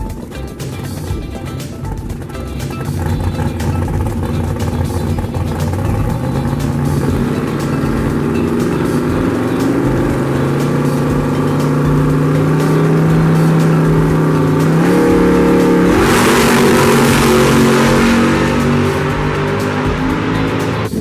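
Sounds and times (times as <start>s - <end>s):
drag car engine revving: 0.0s - 21.0s.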